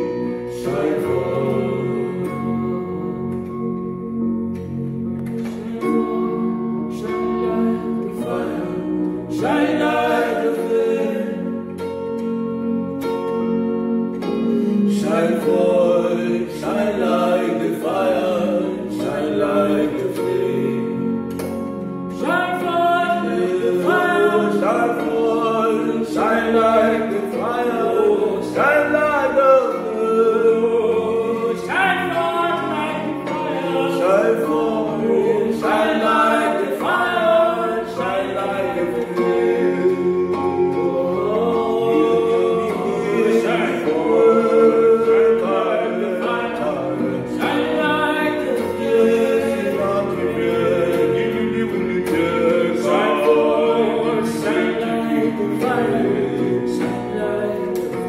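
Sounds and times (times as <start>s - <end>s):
men singing worship song: 0.0s - 3.4s, 5.4s - 11.7s, 14.5s - 58.0s
keyboard playing sustained chords: 0.0s - 58.0s.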